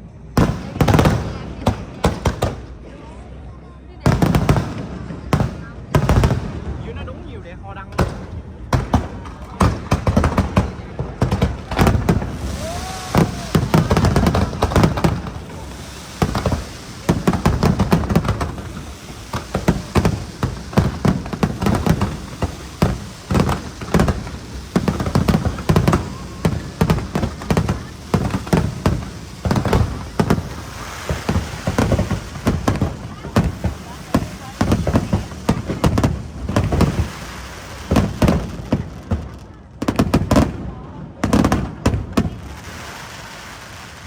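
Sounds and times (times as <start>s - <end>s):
fireworks banging: 0.3s - 2.9s, 4.0s - 44.0s.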